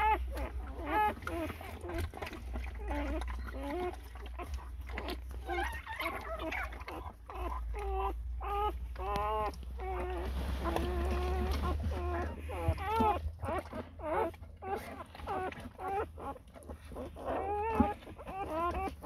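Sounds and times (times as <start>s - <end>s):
puppies squealing and crying: 0.0s - 19.0s.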